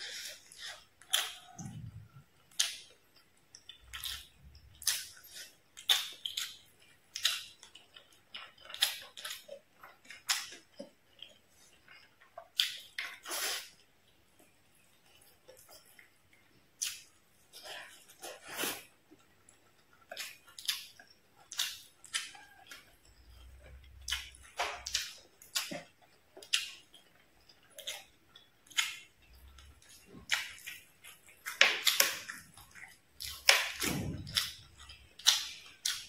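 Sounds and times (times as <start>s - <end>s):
chewing with wet smacks: 0.0s - 36.0s.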